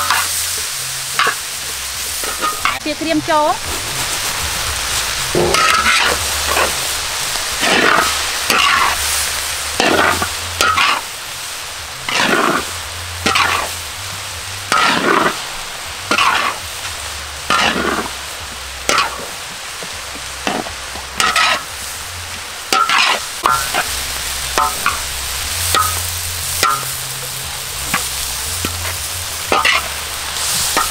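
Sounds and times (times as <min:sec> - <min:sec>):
metal spatula scraping wok: 0:00.0 - 0:11.1, 0:12.0 - 0:13.8, 0:14.6 - 0:15.4, 0:16.0 - 0:19.4, 0:20.3 - 0:22.1, 0:22.7 - 0:30.9
frying sizzle: 0:00.0 - 0:30.9.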